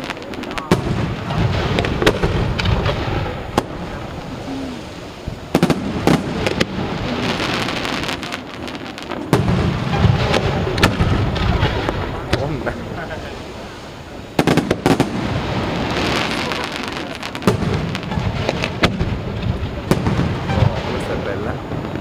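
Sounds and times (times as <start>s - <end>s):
fireworks bursting with bangs: 0.0s - 22.0s
fireworks crackling: 0.0s - 22.0s.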